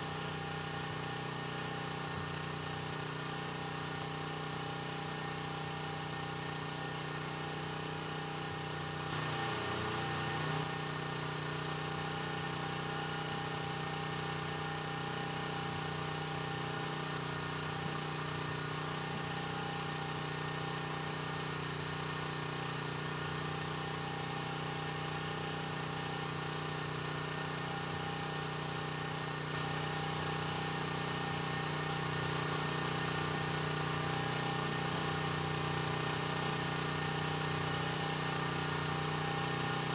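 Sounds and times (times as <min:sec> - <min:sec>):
small engine humming: 0:00.0 - 0:39.9.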